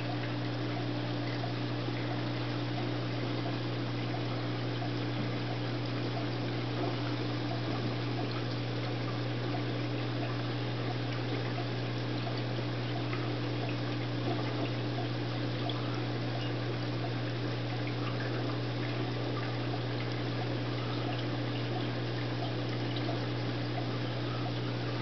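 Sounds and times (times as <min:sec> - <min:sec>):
low equipment hum: 0:00.0 - 0:25.0
small splashes and bubble pops: 0:00.0 - 0:25.0
water trickling and dripping: 0:00.0 - 0:25.0.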